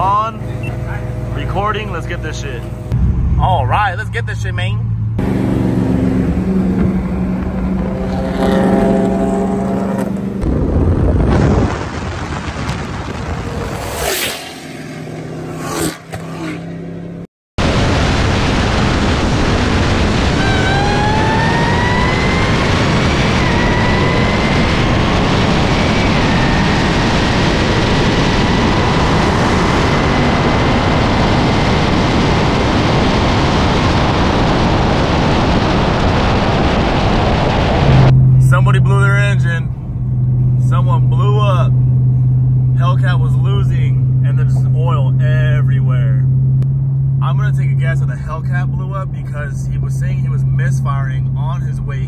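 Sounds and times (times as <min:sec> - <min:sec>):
car engine at full throttle: 0:00.0 - 0:52.0
supercharger whine: 0:00.0 - 0:52.0.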